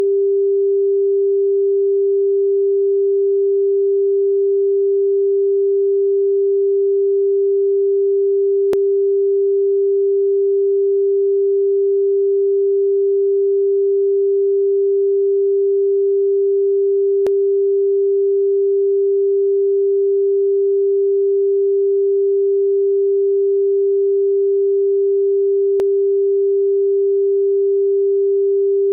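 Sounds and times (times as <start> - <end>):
steady electronic sine tone: 0.0 - 28.9.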